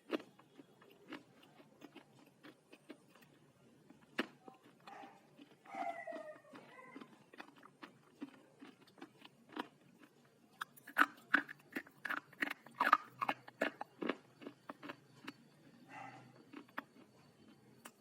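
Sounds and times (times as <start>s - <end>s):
slate crunching between teeth: 0.0s - 15.5s, 16.4s - 18.0s.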